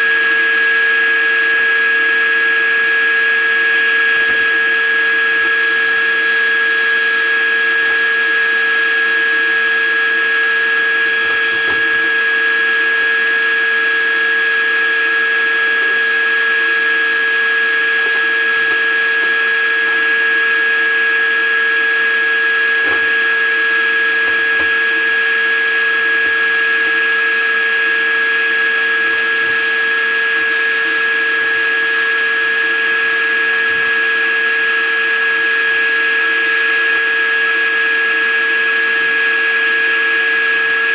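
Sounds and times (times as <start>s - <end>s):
constant high whine: 0.0s - 40.9s.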